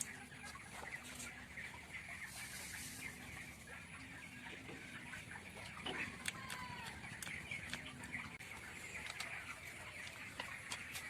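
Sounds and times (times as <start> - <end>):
chickens chattering: 0.0 - 11.0.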